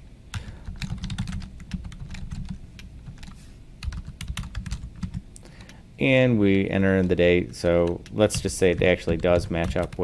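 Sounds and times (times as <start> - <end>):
computer keyboard typing: 0.3 - 5.8, 6.5 - 10.0.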